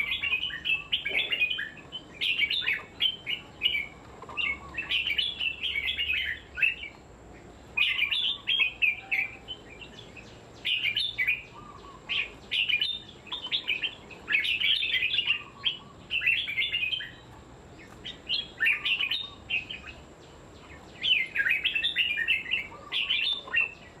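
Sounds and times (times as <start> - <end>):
bird singing chirpy phrases: 0.0 - 24.0.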